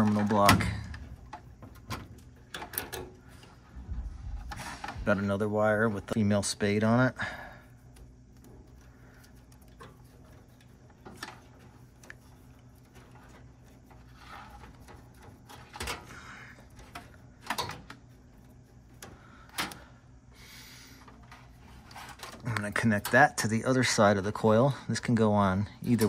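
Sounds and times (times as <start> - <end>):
electrical wires rustling: 0.0 - 25.2.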